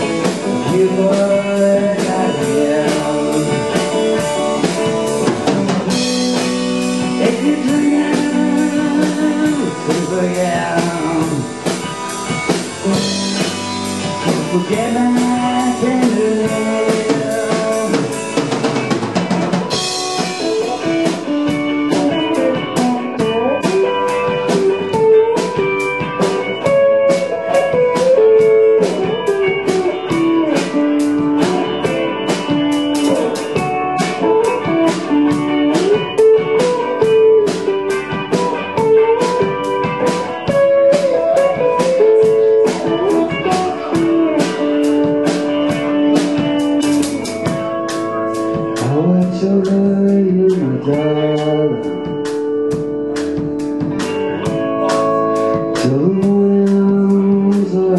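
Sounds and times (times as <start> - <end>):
blues rock band playing: 0.0 - 57.9
lead guitar bending pitch: 0.0 - 57.9.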